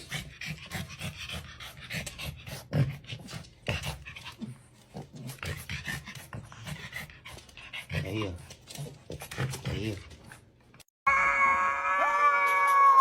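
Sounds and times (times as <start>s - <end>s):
dog panting: 0.0s - 10.8s.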